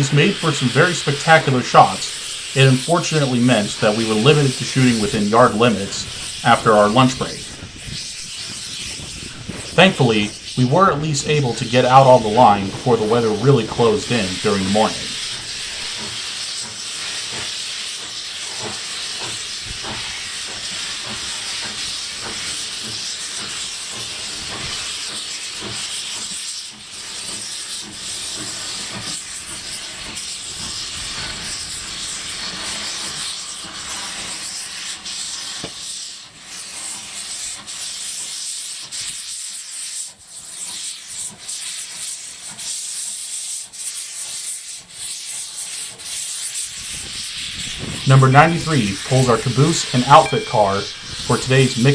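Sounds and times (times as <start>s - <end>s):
steam locomotive hissing: 0.0s - 51.9s.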